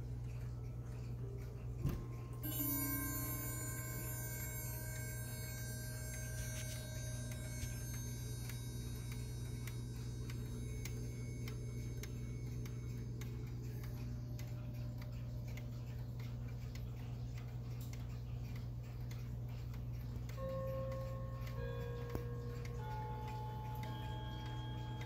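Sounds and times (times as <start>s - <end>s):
clock ticking: 0.0s - 25.0s
steady low hum: 0.0s - 25.0s.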